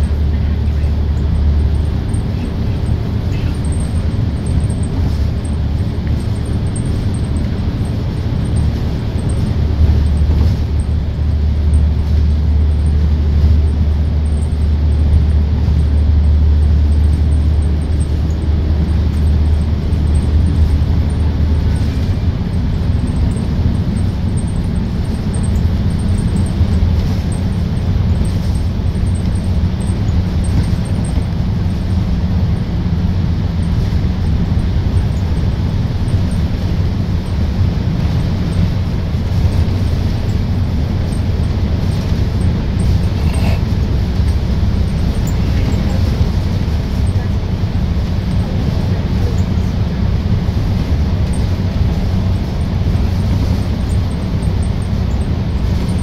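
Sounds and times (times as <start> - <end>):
deep bus engine hum: 0.0 - 56.0
rumble of tyres and traffic: 0.0 - 56.0.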